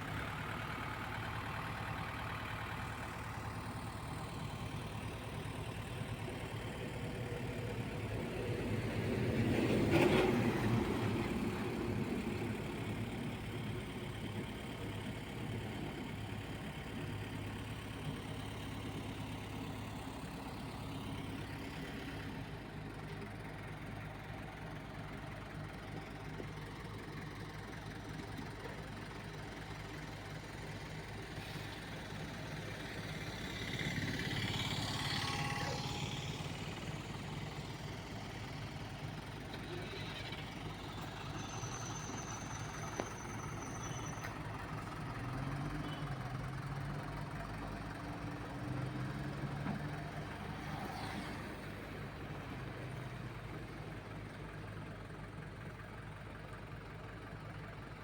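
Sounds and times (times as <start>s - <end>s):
heavy vehicle engine idling: 0.0s - 58.0s.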